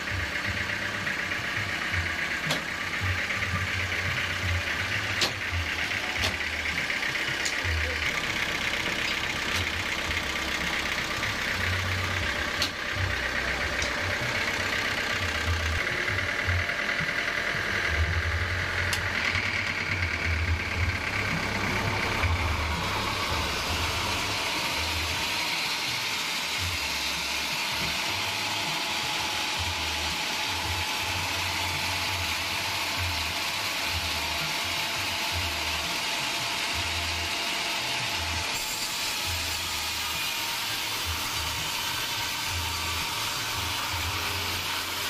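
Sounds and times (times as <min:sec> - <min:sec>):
sawmill engine running: 0:00.0 - 0:45.0.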